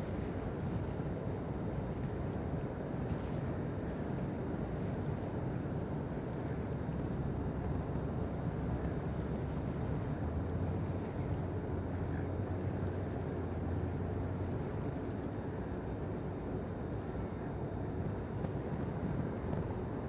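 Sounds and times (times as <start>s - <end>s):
boat engine hum: 0.0s - 20.0s
rushing water and wind: 0.0s - 20.0s.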